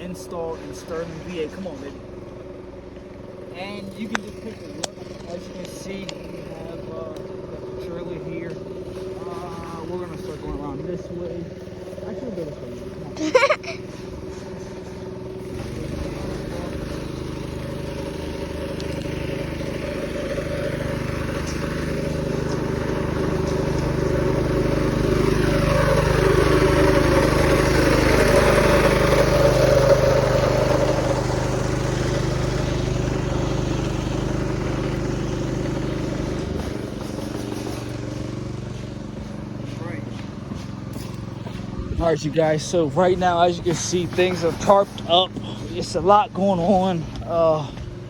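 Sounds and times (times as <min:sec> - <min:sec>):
vehicle engine hum: 0:00.0 - 0:48.0
vehicle passing by: 0:00.0 - 0:48.0.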